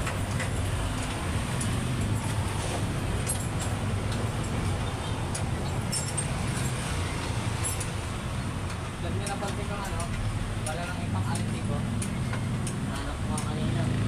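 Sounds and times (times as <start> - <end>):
motor vehicles rumbling: 0.0 - 14.0.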